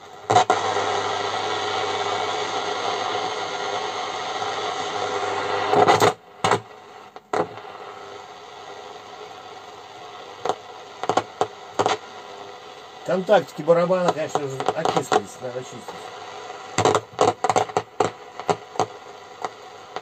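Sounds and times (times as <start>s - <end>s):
radio crackles and clicks: 0.0s - 20.0s
radio static hiss: 0.0s - 20.0s.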